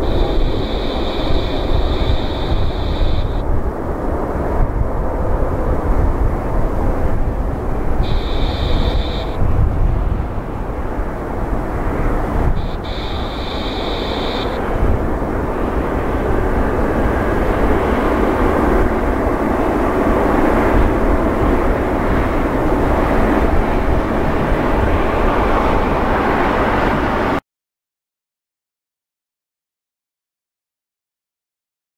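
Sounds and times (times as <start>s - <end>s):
jet engines at take-off: 0.0s - 27.4s.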